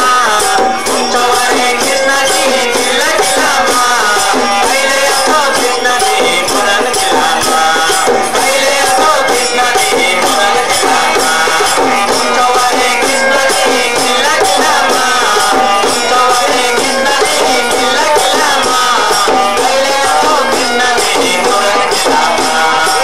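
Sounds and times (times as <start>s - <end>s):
jingling percussion beat: 0.0s - 23.0s.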